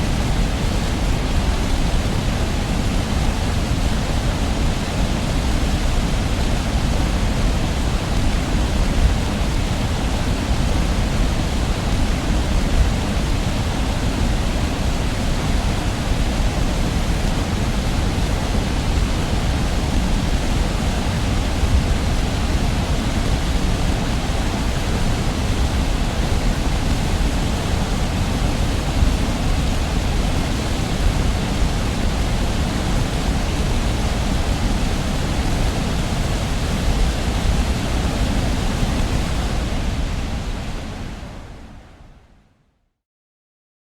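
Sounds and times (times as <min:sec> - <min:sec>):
distant heavy waterfall: 0:00.0 - 0:42.2.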